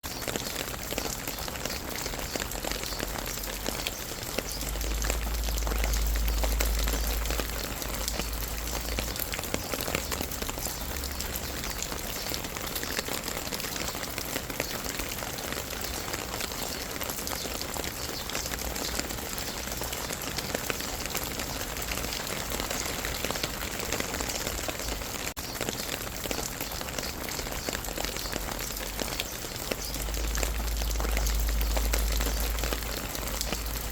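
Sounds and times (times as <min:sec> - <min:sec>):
rain drops ticking on surface: 0:00.0 - 0:33.9.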